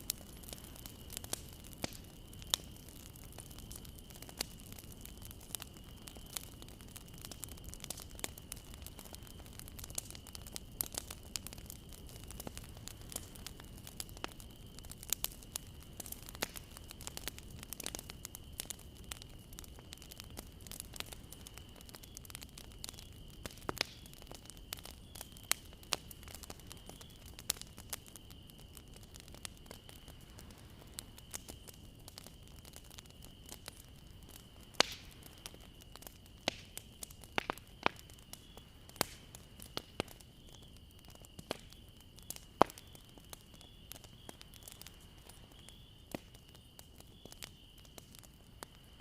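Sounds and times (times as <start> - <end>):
bonfire crackling: 0.0 - 49.0.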